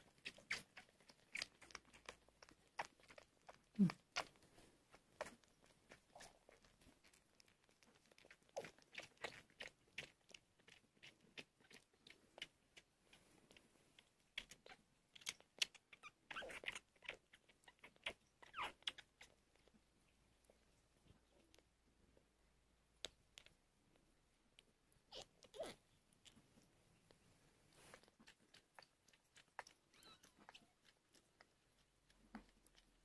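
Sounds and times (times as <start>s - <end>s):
kitten sucking clicks and smacks: 0.0s - 21.7s, 23.0s - 33.0s.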